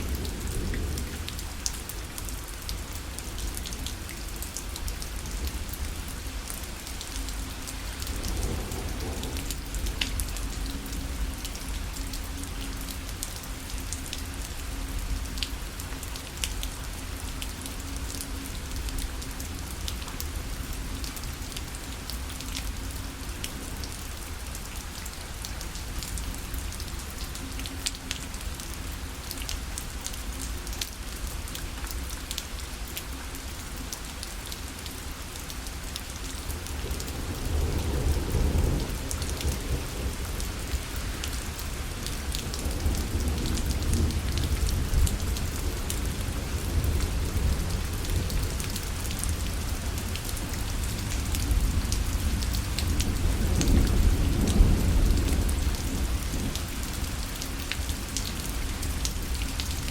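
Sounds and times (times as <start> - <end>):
rain on a parasol: 0.0 - 59.9.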